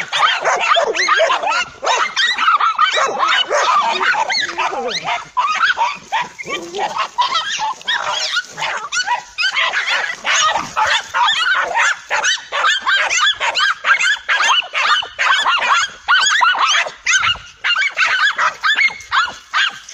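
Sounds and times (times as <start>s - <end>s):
dogs barking and yelping: 0.0s - 19.9s.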